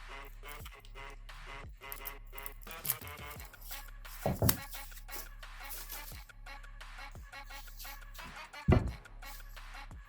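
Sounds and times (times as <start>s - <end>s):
background music with sliding bass: 0.0s - 10.0s.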